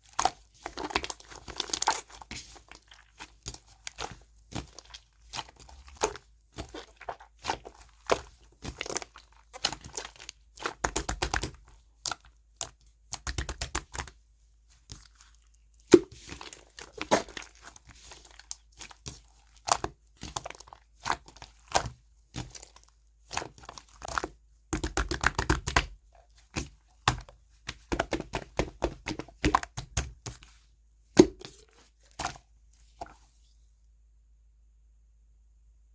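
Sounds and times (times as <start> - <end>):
hands squishing crackling slime: 0.0 - 33.3.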